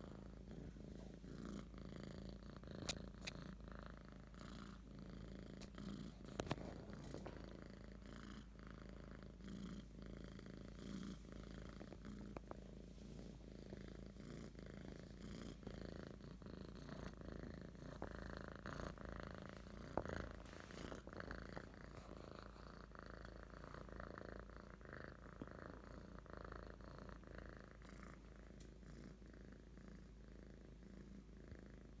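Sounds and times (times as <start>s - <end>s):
kitten purring: 0.0s - 32.0s.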